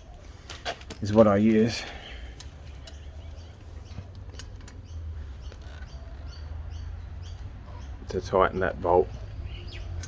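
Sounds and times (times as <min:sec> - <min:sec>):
small bird chirping: 0:01.9 - 0:10.0.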